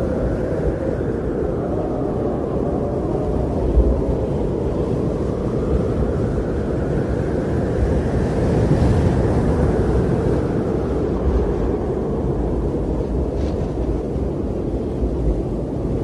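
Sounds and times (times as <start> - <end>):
strong blizzard wind: 0.0 - 16.0.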